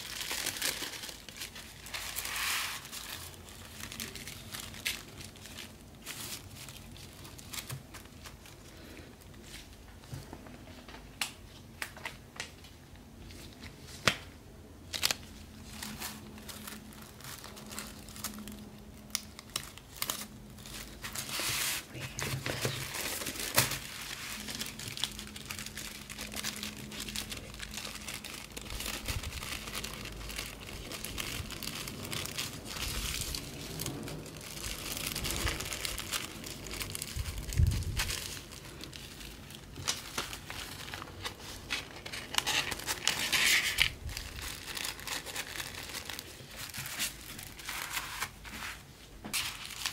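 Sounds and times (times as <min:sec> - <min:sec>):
tissue paper rustling and crinkling: 0:00.0 - 0:12.5, 0:14.9 - 0:49.9.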